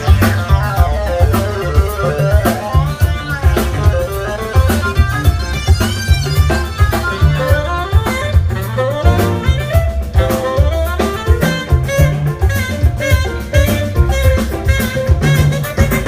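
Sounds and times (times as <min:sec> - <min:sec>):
bass: 0:00.0 - 0:16.0
drum kit: 0:00.0 - 0:16.0
saxophone melody: 0:00.0 - 0:16.0.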